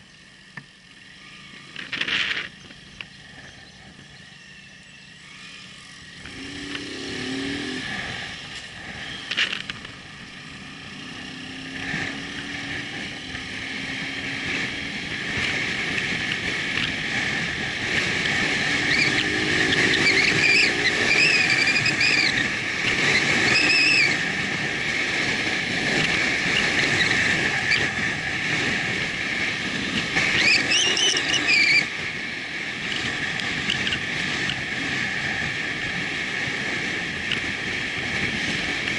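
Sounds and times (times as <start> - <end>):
motorcycle engine: 0.0 - 38.9
wind noise: 6.1 - 38.9.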